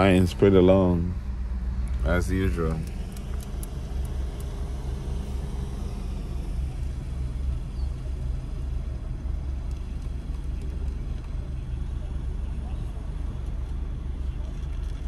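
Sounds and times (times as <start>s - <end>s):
car engine rumble inside cabin: 0.0s - 15.0s.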